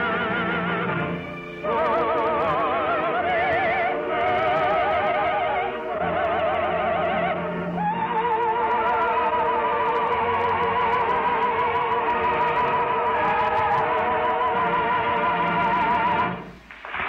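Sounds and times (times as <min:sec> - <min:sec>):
orchestral music with slow melody: 0:00.0 - 0:16.7.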